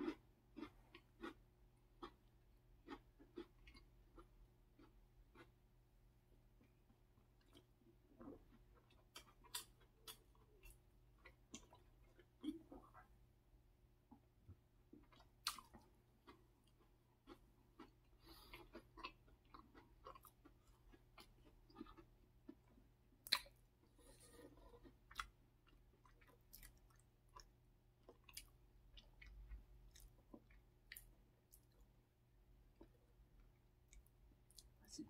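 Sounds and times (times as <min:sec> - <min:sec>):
chewing and mouth sounds: 0:00.0 - 0:05.6, 0:06.6 - 0:13.1, 0:14.9 - 0:32.0.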